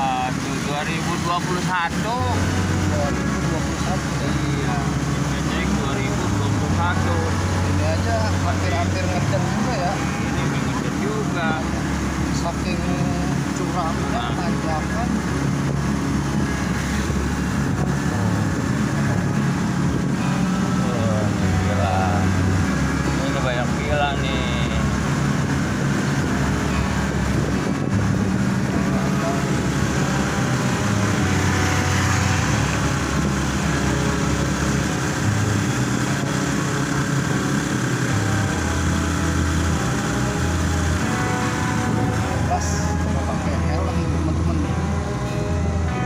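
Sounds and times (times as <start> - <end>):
scooter engine working hard: 0.0 - 46.0
wind noise on microphone: 0.0 - 46.0.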